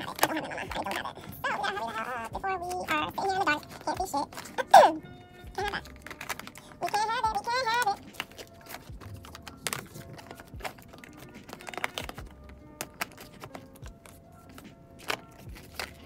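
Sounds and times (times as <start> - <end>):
quiet background music: 0.0 - 16.0.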